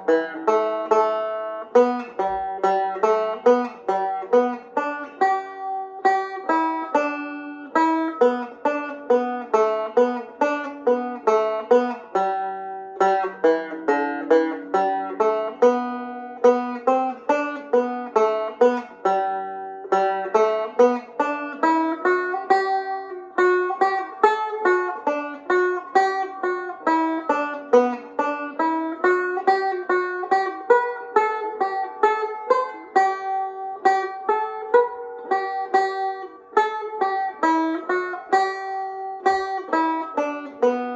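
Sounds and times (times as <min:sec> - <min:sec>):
banjo plucking a reel: 0:00.0 - 0:40.9.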